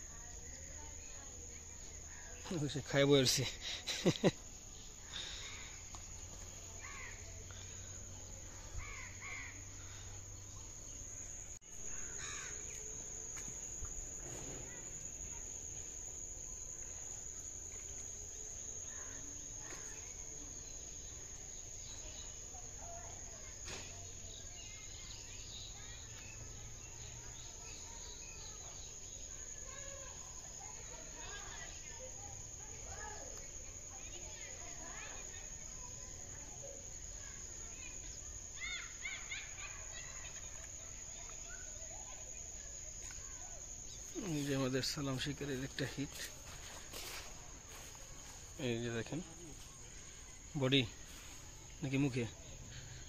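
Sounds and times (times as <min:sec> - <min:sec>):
high-pitched insect drone: 0:00.0 - 0:49.6.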